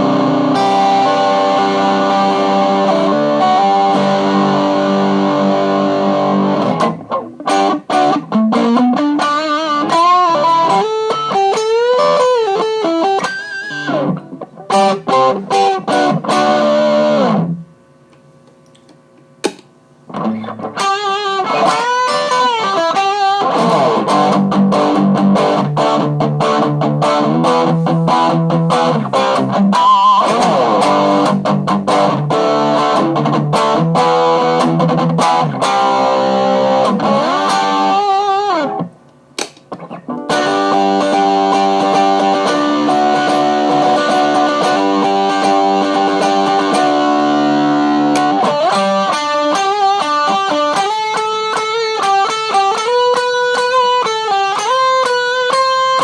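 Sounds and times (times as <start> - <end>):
electric guitar chords and lead: 0.0 - 17.7, 20.1 - 56.0.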